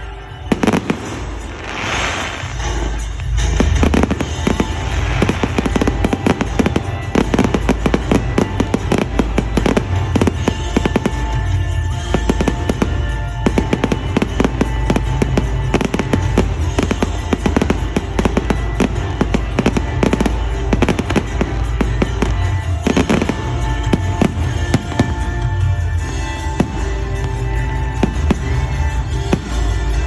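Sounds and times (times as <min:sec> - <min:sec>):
fireworks bangs and crackles: 0:00.0 - 0:30.0
music playing: 0:00.0 - 0:30.0.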